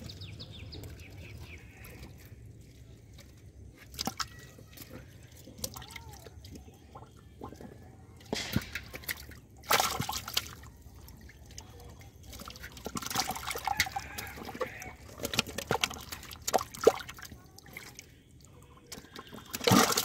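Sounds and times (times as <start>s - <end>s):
fish splashing in shallow water: 0.0s - 20.0s
water dripping: 0.0s - 20.0s.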